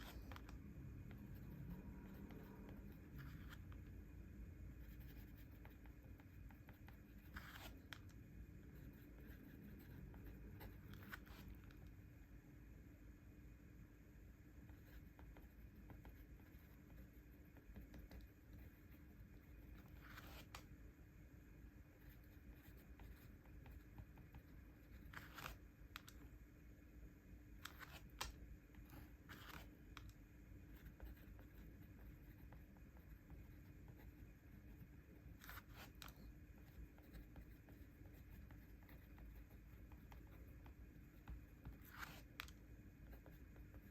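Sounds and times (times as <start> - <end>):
pen on paper: 0.0 - 11.9, 14.6 - 20.8, 21.9 - 26.4, 27.6 - 43.9
low room hum: 0.0 - 43.9.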